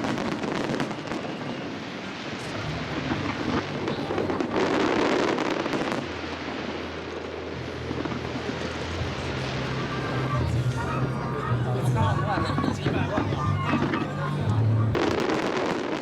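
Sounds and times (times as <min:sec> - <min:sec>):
fireworks crackling bursts: 0:00.0 - 0:16.0.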